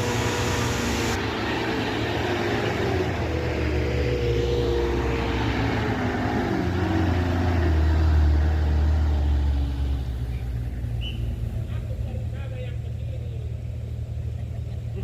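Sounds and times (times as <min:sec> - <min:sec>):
heavy truck engine labouring: 0:00.0 - 0:15.0.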